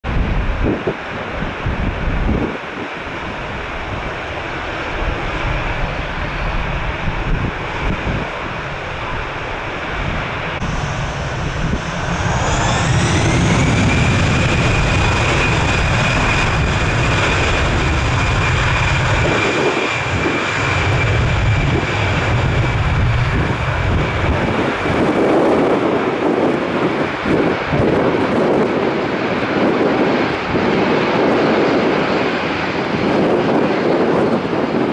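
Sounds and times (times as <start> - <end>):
jet engine low rumble: 0.0 - 34.9
jet engine whine: 0.0 - 34.9.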